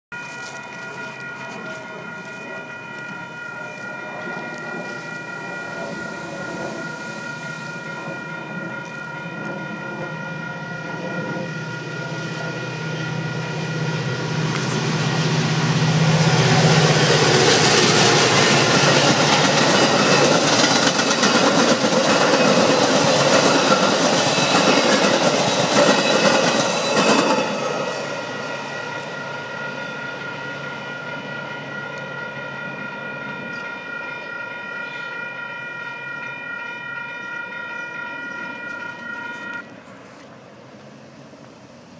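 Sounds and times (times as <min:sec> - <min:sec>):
high ringing tone: 0:00.1 - 0:39.9
diesel locomotive hum: 0:00.2 - 0:41.9
train coaches rushing past: 0:00.2 - 0:41.9.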